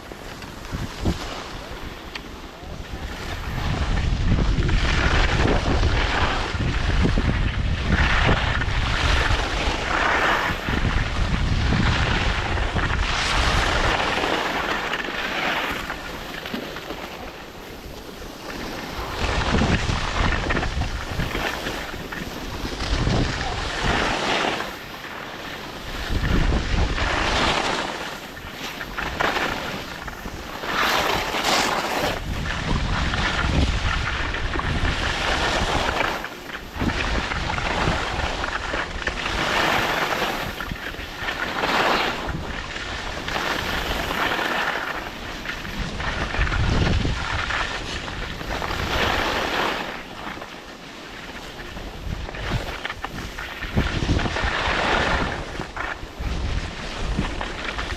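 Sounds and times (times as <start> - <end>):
wind buffeting microphone: 0.0 - 16.4, 17.2 - 50.2, 51.4 - 57.9.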